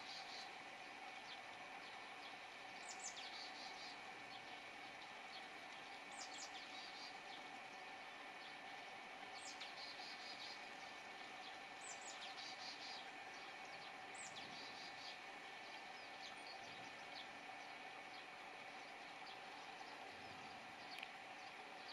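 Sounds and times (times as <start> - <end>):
faint hum: 0.0 - 21.9
songbird singing: 0.0 - 21.9.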